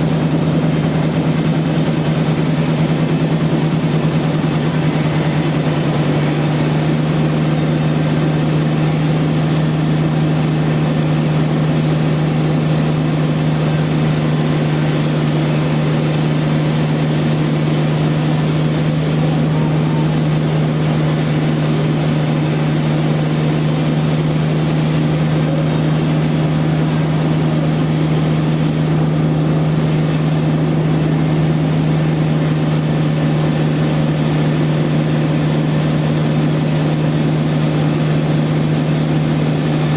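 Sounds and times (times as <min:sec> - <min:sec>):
motor low hum: 0:00.0 - 0:39.9
noisy machine whir: 0:00.0 - 0:39.9.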